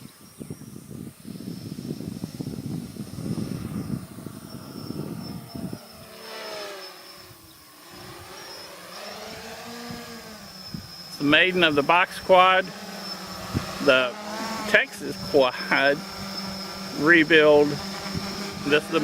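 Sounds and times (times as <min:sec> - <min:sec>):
wind rumbling on microphone: 0:00.0 - 0:08.4, 0:09.1 - 0:19.0
quadcopter motors whining: 0:00.0 - 0:19.0.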